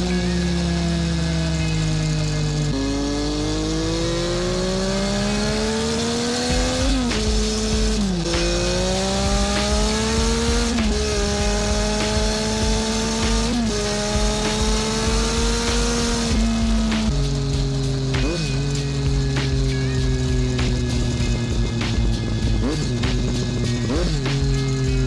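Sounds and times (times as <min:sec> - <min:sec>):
engine accelerating through gears: 0:00.0 - 0:25.0.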